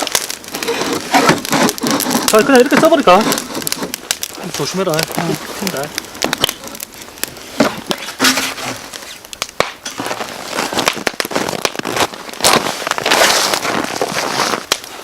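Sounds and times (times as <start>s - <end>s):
fat spattering pops: 0.0s - 15.0s
wood fire crackling: 0.0s - 15.0s.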